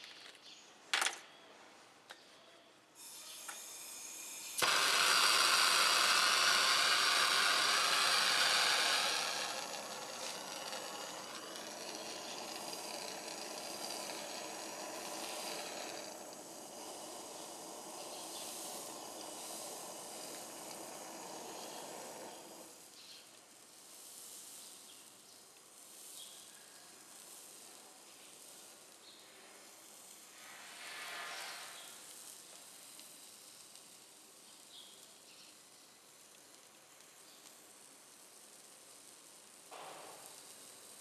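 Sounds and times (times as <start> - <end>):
gas torch flame hissing: 3.0 - 41.0.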